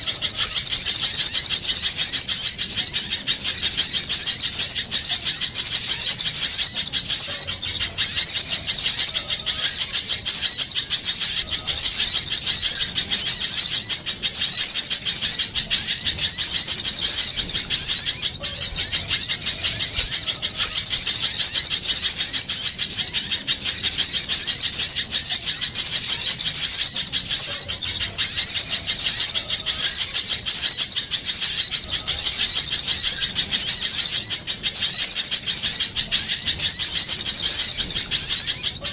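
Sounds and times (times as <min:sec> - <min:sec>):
songbirds chattering and chirping: 0:00.0 - 0:38.9.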